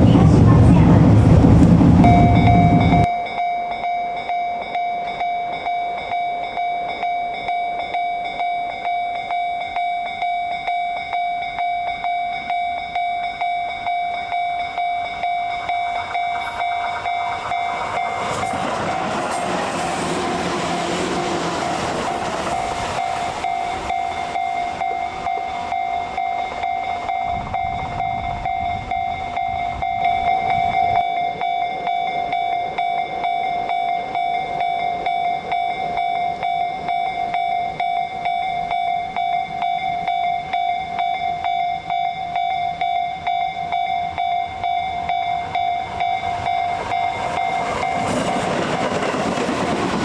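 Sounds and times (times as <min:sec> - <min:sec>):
train passing: 0:00.0 - 0:50.0
level crossing bell dinging: 0:02.0 - 0:49.4.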